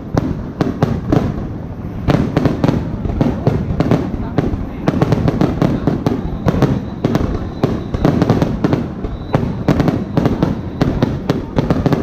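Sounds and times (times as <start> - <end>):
firework shells launching and bursting: 0.0 - 12.0.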